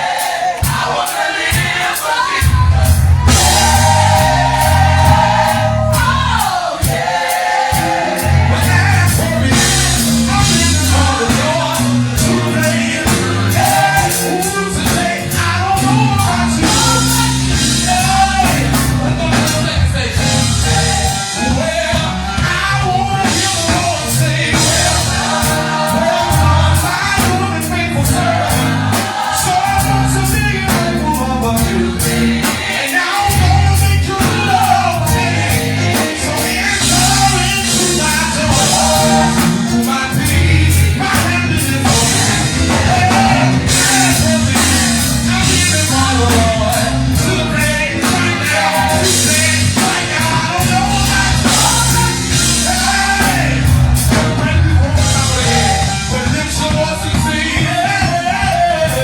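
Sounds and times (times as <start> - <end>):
drums with cymbals: 0.0 - 59.0
gospel choir singing: 0.0 - 59.0
keyboard: 0.0 - 59.0
bass guitar: 2.4 - 6.6, 7.8 - 59.0.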